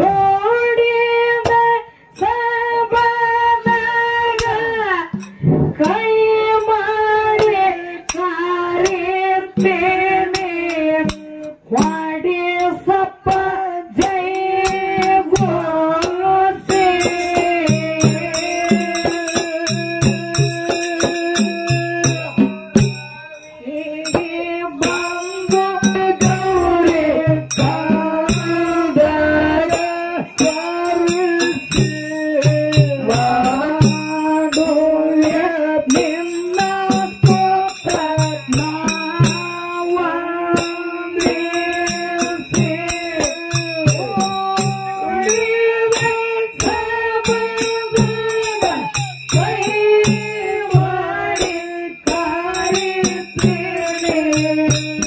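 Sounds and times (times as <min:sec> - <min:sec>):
woman singing into microphone: 0:00.0 - 0:22.9, 0:23.6 - 0:55.0
hand-drum beat: 0:03.7 - 0:55.0
small metal cymbals jingling: 0:06.4 - 0:55.0.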